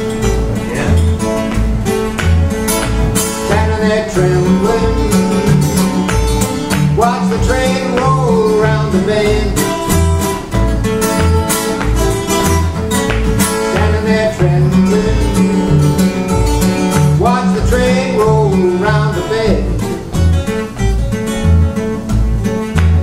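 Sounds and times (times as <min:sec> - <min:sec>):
acoustic guitars playing: 0:00.0 - 0:23.0.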